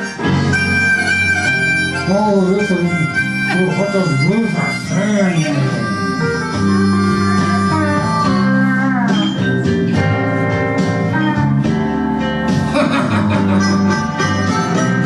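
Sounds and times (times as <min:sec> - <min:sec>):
bass line: 0:00.0 - 0:15.0
blues guitar with sliding notes: 0:00.0 - 0:15.0.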